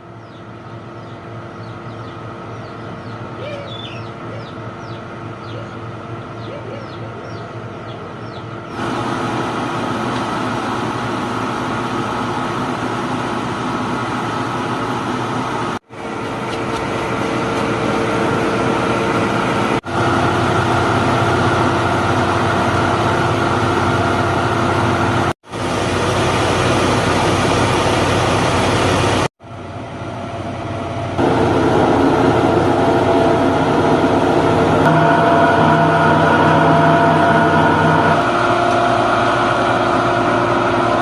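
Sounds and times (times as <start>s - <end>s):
farm machine motor running: 0.0s - 41.0s.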